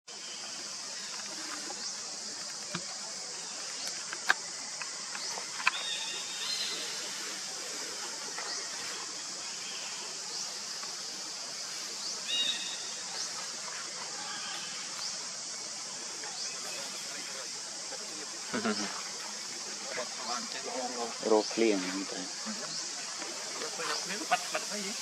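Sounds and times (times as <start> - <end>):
steady high hiss: 0.1 - 25.0.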